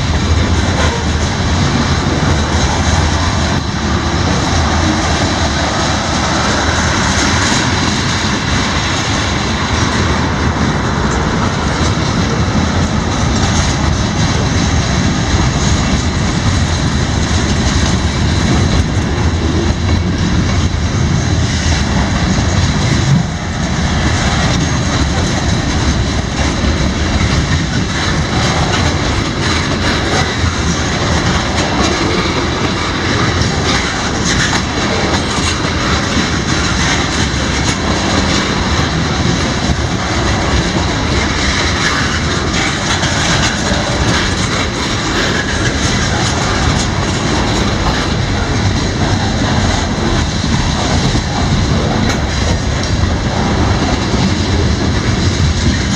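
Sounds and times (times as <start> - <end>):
freight train passing: 0.0 - 55.9.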